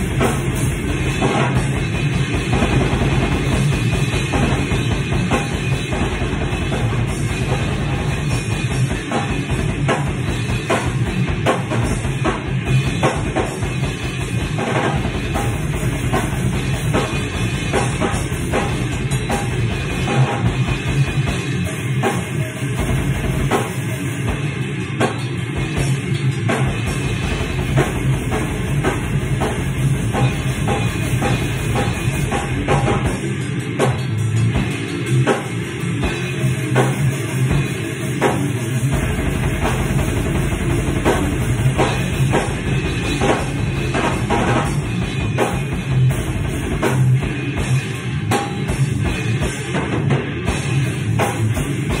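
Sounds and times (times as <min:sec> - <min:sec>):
drums: 0:00.0 - 0:52.0
heavy metal electric guitar: 0:00.0 - 0:52.0
rapid double-bass kick drum: 0:00.0 - 0:52.0.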